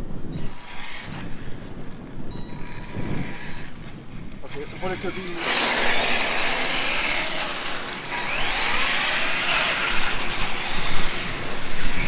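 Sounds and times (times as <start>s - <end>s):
toy truck motor whining: 0.4s - 1.6s, 2.3s - 3.9s, 4.5s - 12.0s.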